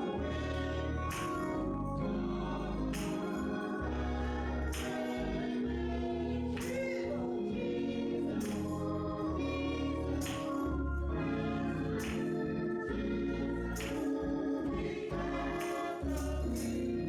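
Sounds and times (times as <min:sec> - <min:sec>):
choir singing gospel song: 0:00.0 - 0:17.0
instrumental accompaniment: 0:00.0 - 0:17.0.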